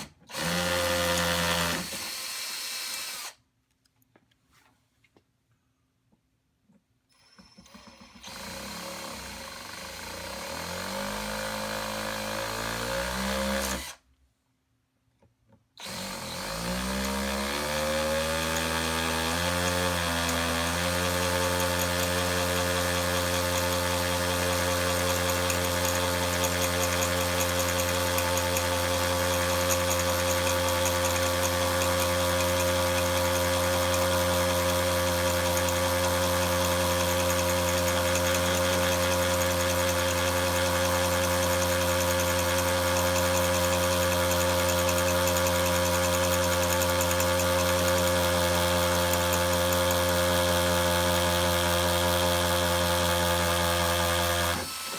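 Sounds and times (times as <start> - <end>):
electric drill whining: 0.0 - 3.4, 7.2 - 14.0, 15.8 - 54.9.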